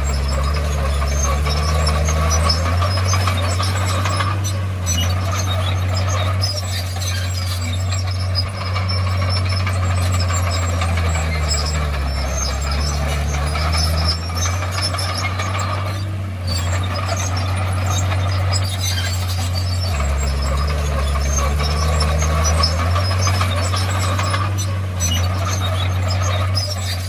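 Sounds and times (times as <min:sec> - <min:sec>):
bulldozer diesel engine under load: 0:00.0 - 0:27.0
steel tracks clanking and squeaking: 0:00.0 - 0:27.0.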